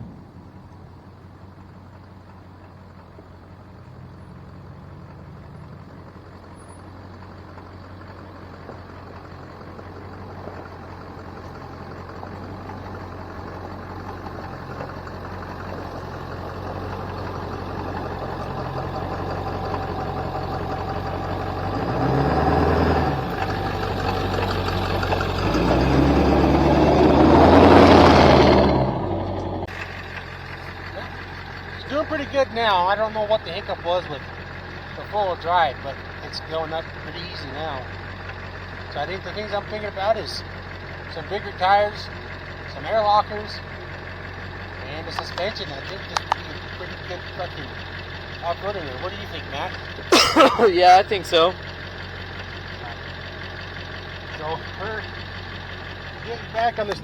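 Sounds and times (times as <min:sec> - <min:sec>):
truck engine pulling uphill: 0:00.0 - 0:57.0.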